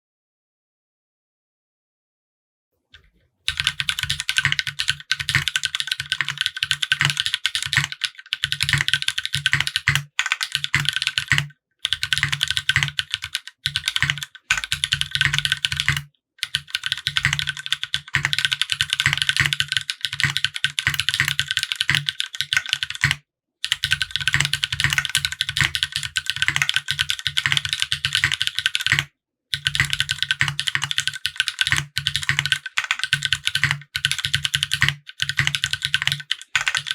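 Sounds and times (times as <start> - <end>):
mechanical keyboard typing: 3.5 - 36.9.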